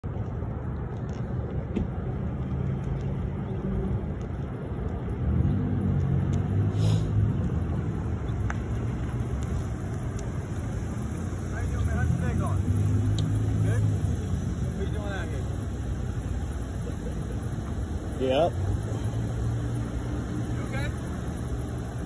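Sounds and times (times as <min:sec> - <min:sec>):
low traffic rumble: 0:00.0 - 0:22.0
car engine pulling out: 0:00.2 - 0:22.0.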